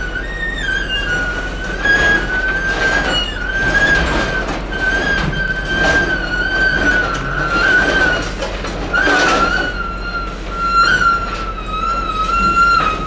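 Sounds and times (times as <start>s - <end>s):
metal container runners screeching: 0.0s - 13.0s.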